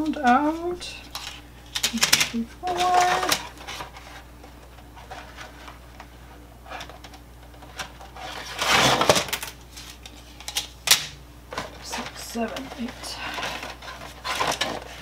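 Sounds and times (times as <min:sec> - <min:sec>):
rustling clatter: 0:00.0 - 0:10.6, 0:11.5 - 0:15.0.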